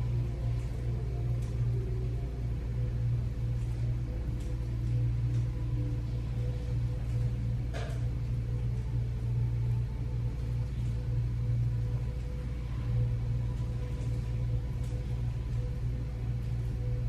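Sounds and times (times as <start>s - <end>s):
faint steady tones: 0.0s - 17.0s
steady low hum: 0.0s - 17.0s.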